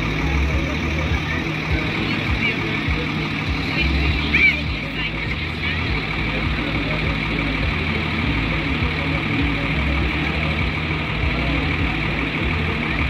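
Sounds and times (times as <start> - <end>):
heavy vehicle engine idling: 0.0 - 13.0.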